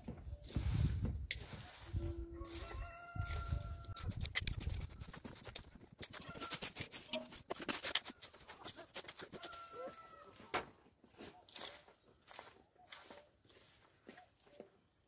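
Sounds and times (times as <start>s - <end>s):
dry straw rustling and crackling: 0.0s - 14.6s.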